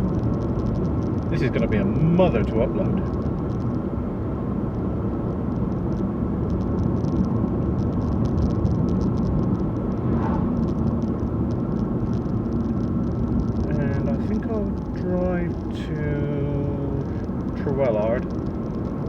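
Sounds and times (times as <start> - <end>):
car engine and tyres rumbling: 0.0 - 19.0
faint steady hum: 0.0 - 19.0.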